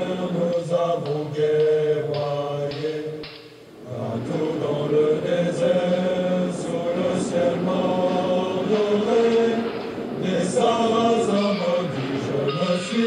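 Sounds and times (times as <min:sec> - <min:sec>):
choir singing slow chant: 0:00.0 - 0:13.0.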